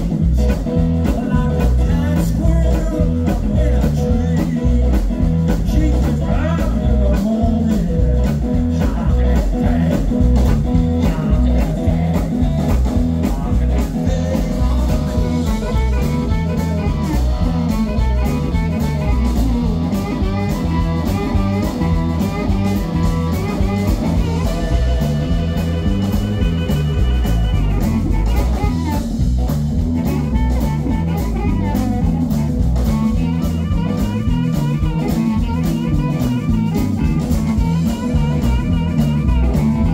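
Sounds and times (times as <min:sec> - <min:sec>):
blues harmonica: 0:00.0 - 0:39.9
drum kit: 0:00.0 - 0:39.9
electric bass: 0:00.0 - 0:39.9
electric guitar: 0:00.0 - 0:39.9.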